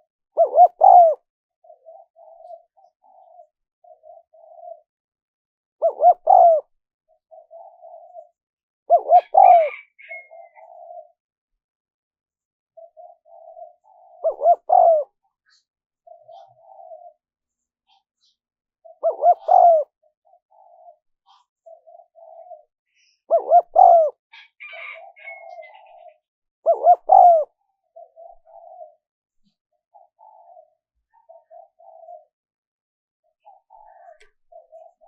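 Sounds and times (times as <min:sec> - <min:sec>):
dove cooing: 0:00.0 - 0:04.9, 0:05.8 - 0:11.2, 0:12.8 - 0:17.3, 0:17.9 - 0:29.1, 0:29.9 - 0:32.4, 0:33.3 - 0:35.0.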